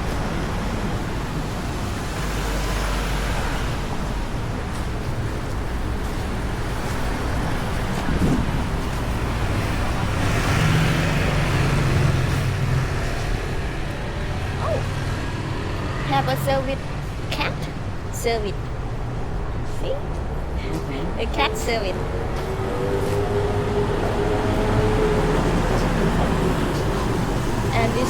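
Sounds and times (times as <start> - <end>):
vehicle engine passing: 0.0 - 19.7, 20.3 - 28.0
road traffic noise: 0.0 - 28.0.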